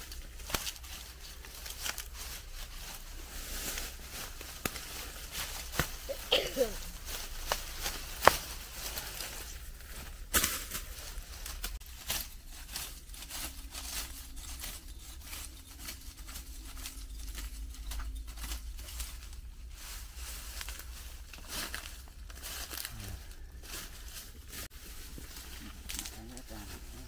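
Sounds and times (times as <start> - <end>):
rustling and crinkling: 0.0 - 27.0.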